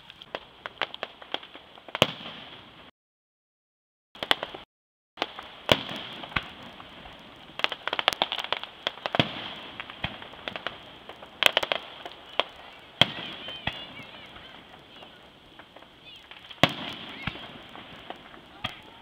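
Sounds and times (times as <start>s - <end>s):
fireworks bangs: 0.0s - 2.9s, 4.2s - 19.0s
fireworks crackling pops: 0.0s - 2.9s, 4.2s - 19.0s.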